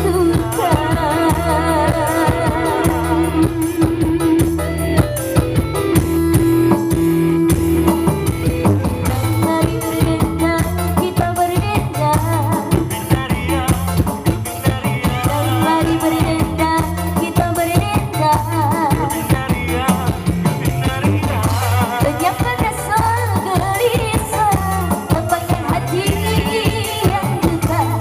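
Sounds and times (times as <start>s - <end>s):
person singing with vibrato: 0.0s - 5.2s, 8.8s - 28.0s
bass line: 0.0s - 28.0s
drum beat: 0.0s - 28.0s.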